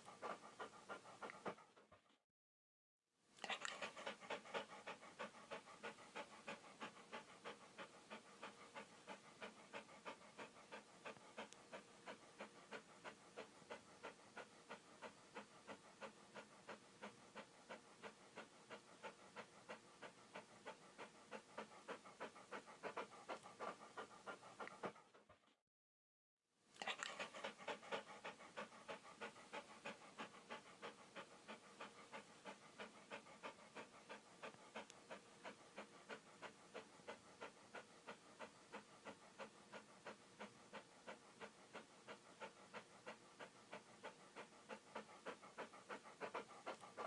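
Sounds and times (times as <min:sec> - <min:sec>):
dog panting: 0:00.0 - 0:02.2, 0:03.4 - 0:25.6, 0:26.8 - 0:47.0.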